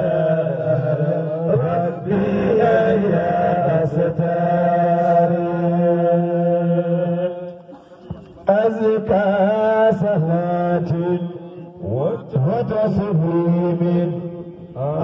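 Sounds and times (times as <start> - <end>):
men chanting into microphones: 0.0 - 7.6, 8.4 - 15.0.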